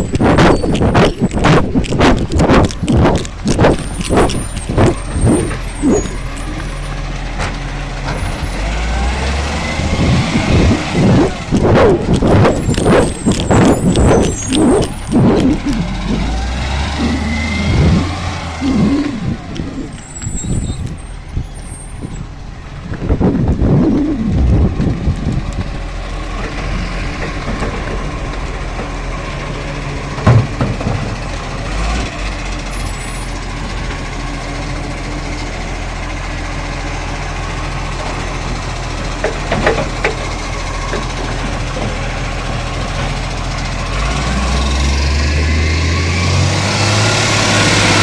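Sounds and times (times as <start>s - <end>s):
garbage truck engine running: 0.0s - 48.0s.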